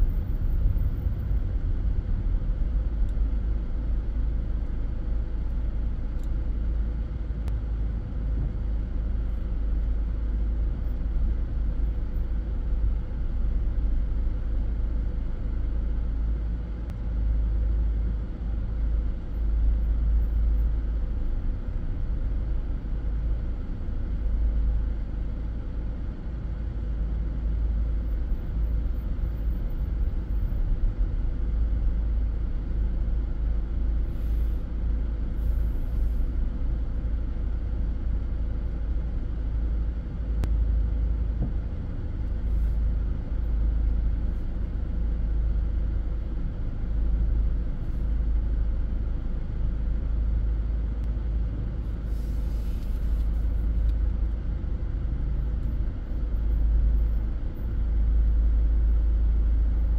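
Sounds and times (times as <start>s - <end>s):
car interior low rumble: 0.0s - 59.9s
faint hum: 0.0s - 59.9s.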